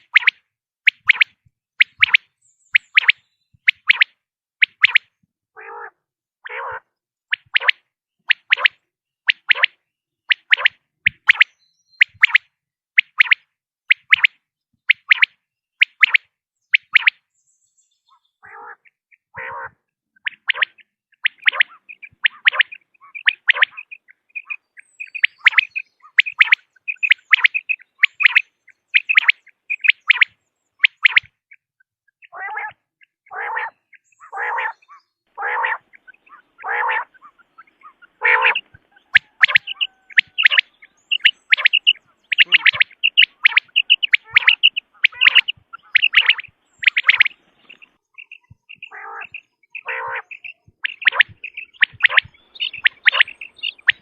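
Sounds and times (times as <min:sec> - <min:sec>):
quail calling: 0:00.0 - 0:12.4, 0:15.0 - 0:17.2, 0:18.1 - 0:54.0.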